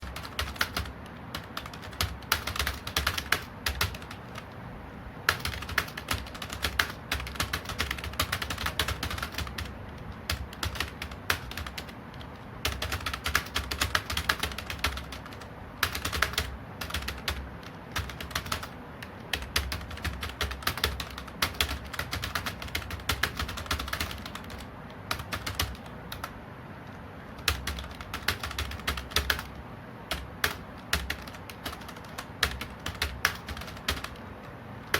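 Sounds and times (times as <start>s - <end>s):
fast typing on keyboard: 0.0s - 4.6s, 5.2s - 26.4s, 27.3s - 34.9s.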